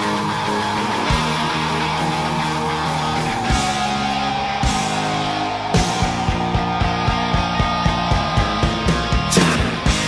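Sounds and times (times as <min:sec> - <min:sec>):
rock guitar chords: 0:00.0 - 0:10.0.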